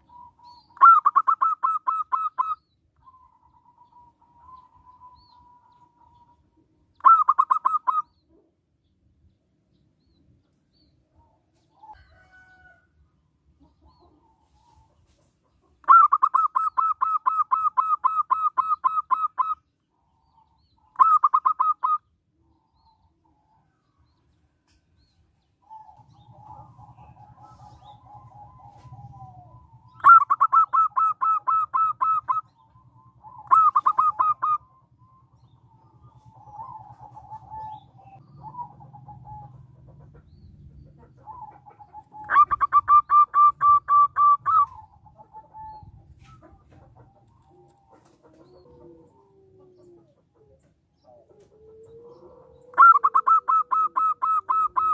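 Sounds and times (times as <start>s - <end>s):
dove trilling: 0.0s - 8.5s, 15.6s - 24.0s, 25.4s - 54.9s
dove staccato calls: 0.0s - 8.6s, 13.6s - 22.2s, 25.5s - 54.9s.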